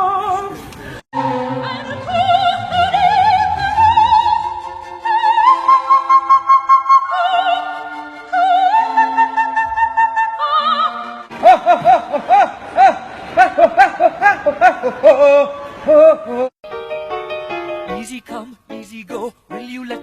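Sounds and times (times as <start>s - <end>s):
wordless operatic singing: 0.0s - 16.5s, 17.9s - 20.0s.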